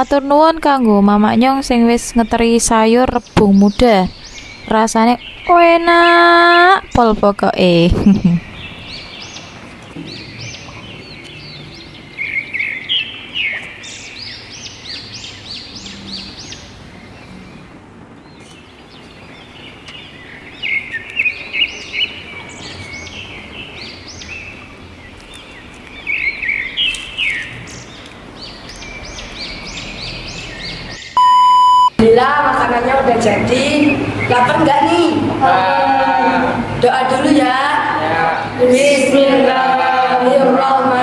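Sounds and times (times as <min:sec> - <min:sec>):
birds chirping: 0:00.0 - 0:41.0
steady background hiss: 0:00.0 - 0:41.0.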